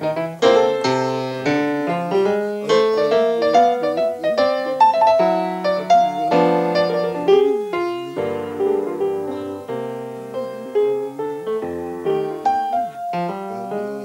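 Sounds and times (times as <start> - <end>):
jazz piano: 0.0 - 14.0.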